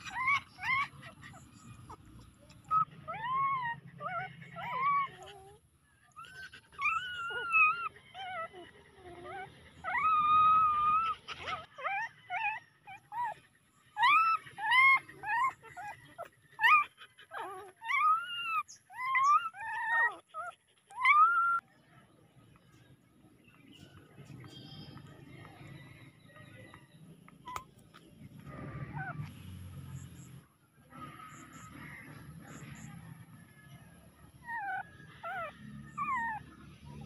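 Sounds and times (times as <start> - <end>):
puppies whimpering: 0.0 - 21.6, 23.5 - 37.0.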